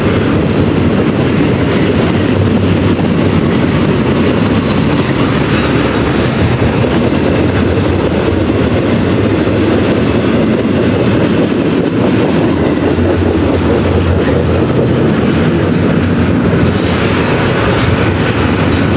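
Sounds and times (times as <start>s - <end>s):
freight train wheels on rails: 0.0s - 18.9s.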